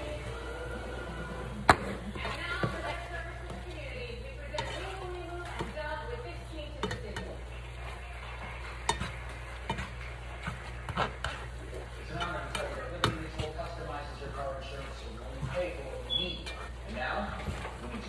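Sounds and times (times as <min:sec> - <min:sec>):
spatula scraping and knocking pan: 0:01.5 - 0:18.0.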